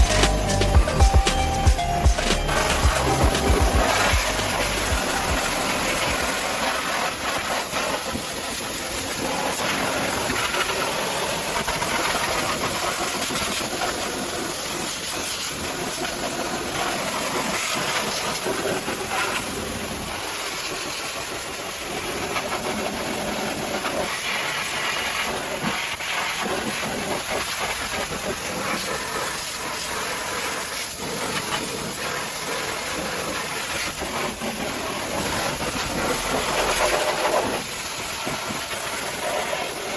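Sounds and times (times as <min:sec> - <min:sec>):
pressure washer spraying: 0:02.4 - 0:39.9.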